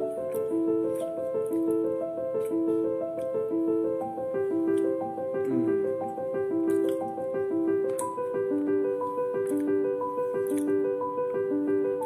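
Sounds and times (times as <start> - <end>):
piano melody of held notes: 0.0 - 12.0.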